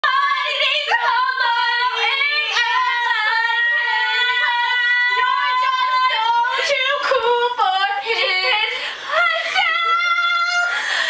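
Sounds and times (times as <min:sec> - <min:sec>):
girls singing long notes: 0:00.0 - 0:11.0.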